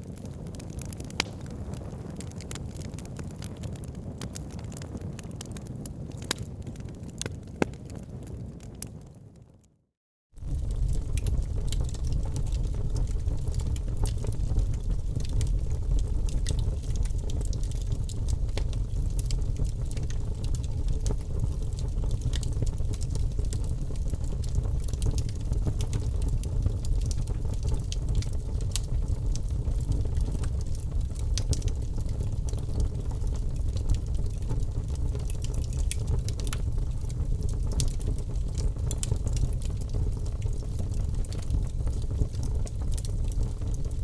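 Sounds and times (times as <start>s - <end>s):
fire roaring with crackles and pops: 0.0s - 9.7s, 10.4s - 44.0s.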